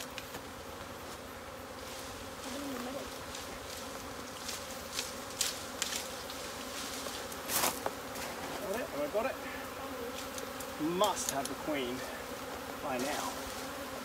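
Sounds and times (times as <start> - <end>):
bee passing close: 0.0 - 14.0
swarm of bees buzzing: 0.0 - 14.0.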